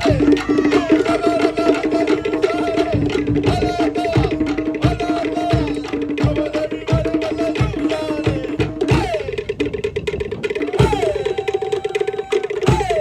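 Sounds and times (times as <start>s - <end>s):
deep bass drum beats: 0.0s - 11.4s
wooden drums fast rhythm: 0.0s - 13.0s.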